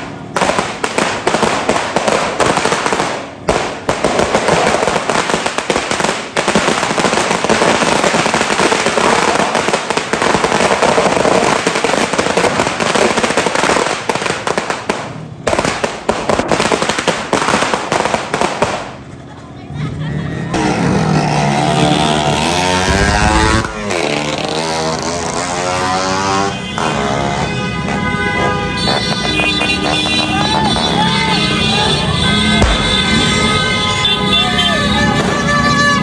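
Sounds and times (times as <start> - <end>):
firecrackers and fireworks crackling: 0.0 - 36.0.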